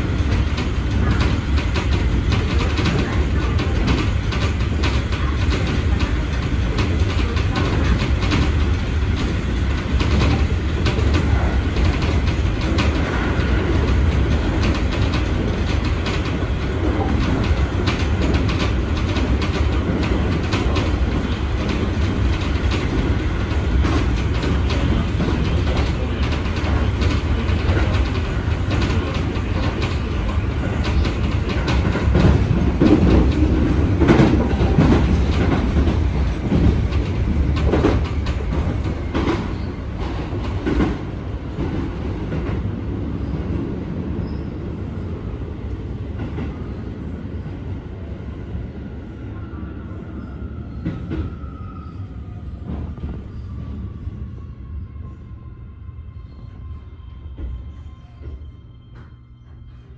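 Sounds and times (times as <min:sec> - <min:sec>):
electric train rumble: 0:00.0 - 0:59.9.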